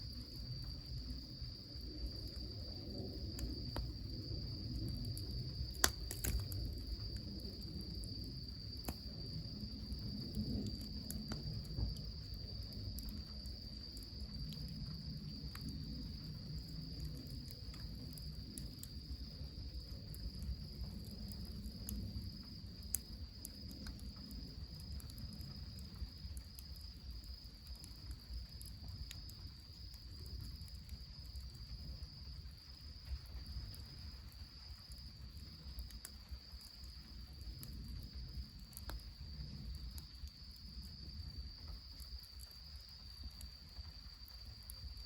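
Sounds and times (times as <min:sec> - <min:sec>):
cricket trilling: 0:00.0 - 0:45.0
faint wood fire crackles: 0:00.0 - 0:45.0.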